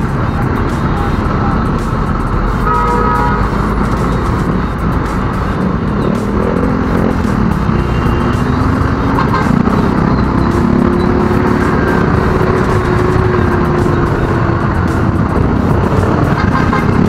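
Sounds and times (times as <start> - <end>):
motorcycle engine riding: 0.0 - 17.0
surrounding traffic: 0.0 - 17.0.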